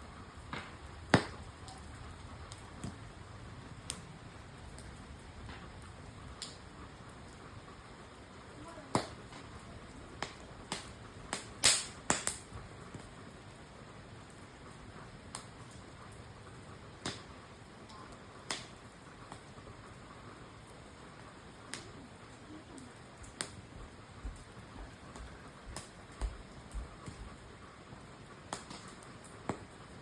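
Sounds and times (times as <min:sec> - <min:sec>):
campfire wood crackling: 0:00.0 - 0:30.0.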